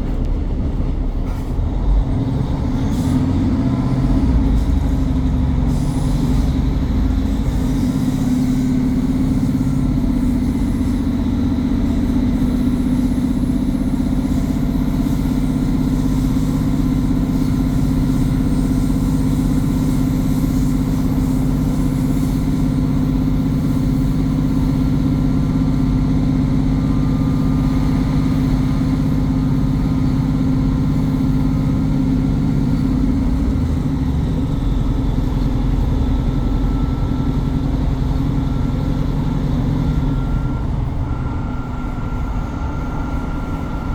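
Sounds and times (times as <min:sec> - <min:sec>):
diesel engine drone: 0:00.0 - 0:43.9.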